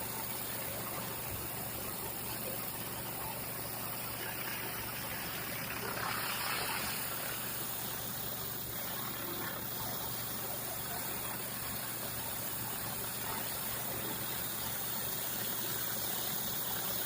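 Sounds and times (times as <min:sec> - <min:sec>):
pressure washer engine running: 0:00.0 - 0:17.0
water spraying on concrete: 0:00.0 - 0:17.0.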